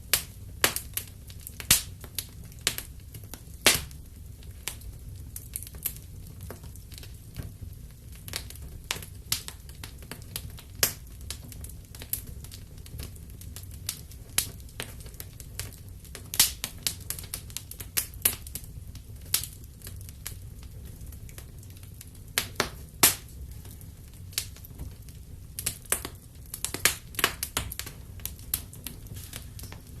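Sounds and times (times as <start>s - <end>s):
low rumble of flames: 0.0s - 30.0s
wood fire crackling and popping: 0.0s - 30.0s.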